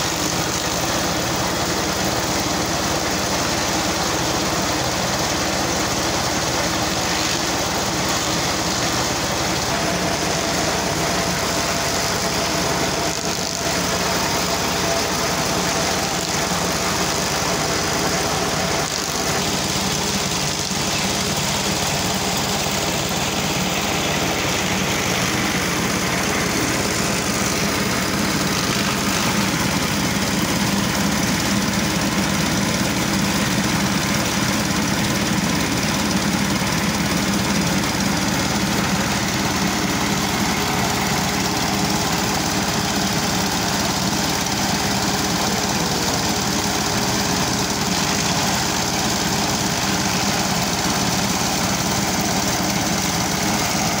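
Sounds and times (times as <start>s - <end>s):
forage chopper engine running: 0.0s - 54.0s.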